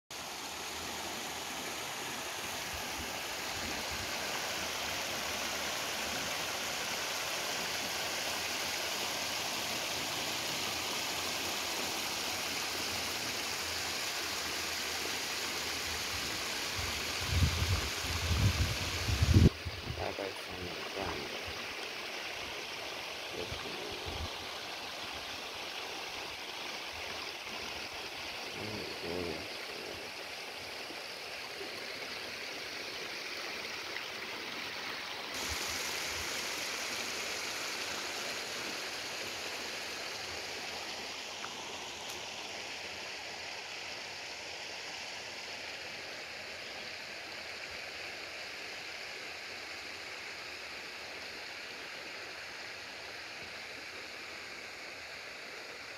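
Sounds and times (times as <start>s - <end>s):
river water rushing over stone: 0.1s - 46.5s.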